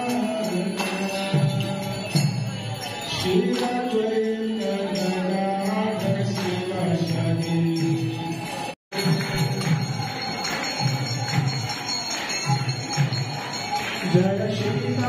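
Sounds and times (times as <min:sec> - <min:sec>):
jingling bells and hand cymbals: 0:00.0 - 0:15.0.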